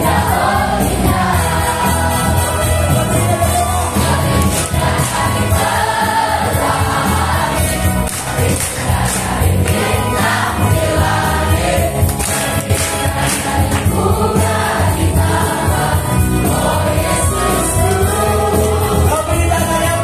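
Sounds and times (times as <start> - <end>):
amplified backing music with bass: 0.0 - 20.0
group singing in unison: 0.0 - 20.0.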